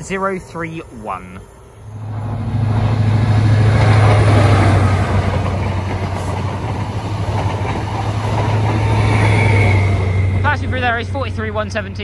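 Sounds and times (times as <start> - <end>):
train wheel and rail noise: 0.0 - 12.0
diesel engine hum: 1.9 - 12.0.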